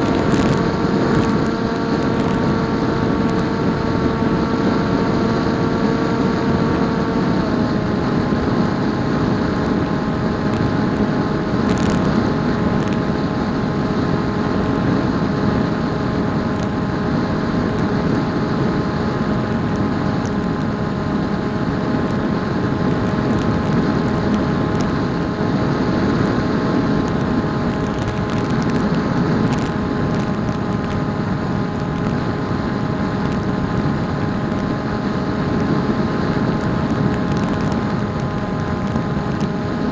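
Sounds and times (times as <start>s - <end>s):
electric motor and propeller hum: 0.0s - 39.9s.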